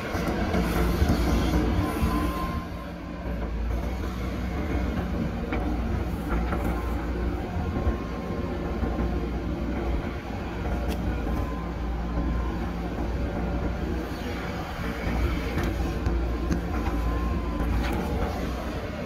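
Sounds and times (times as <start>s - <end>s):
diesel engine running under load: 0.0s - 19.0s
hydraulic arm digging soil: 0.0s - 19.0s.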